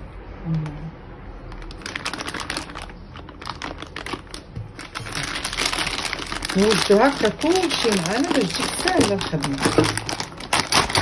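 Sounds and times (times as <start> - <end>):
plastic bag crinkling: 1.5 - 11.0.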